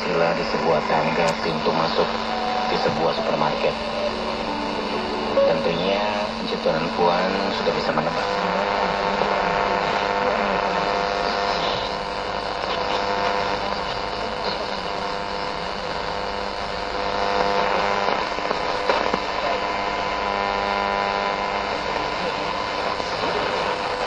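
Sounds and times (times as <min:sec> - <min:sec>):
hum: 0:00.0 - 0:24.0
radio crackles: 0:00.0 - 0:24.0
radio static hiss: 0:00.0 - 0:24.0.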